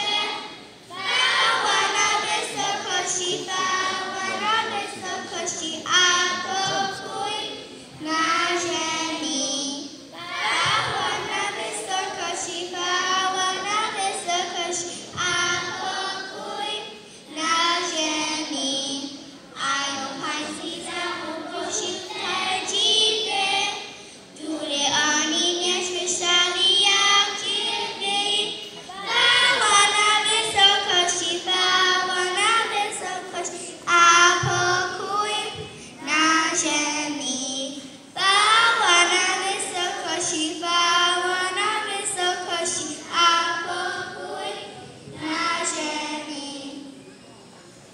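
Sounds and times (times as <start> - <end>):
children singing: 0.0 - 46.8.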